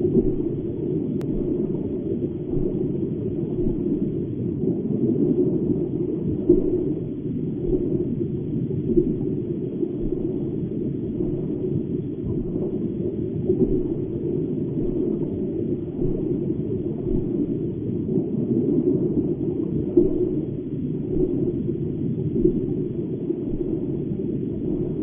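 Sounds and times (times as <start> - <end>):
aquarium water rumble: 0.0 - 25.0.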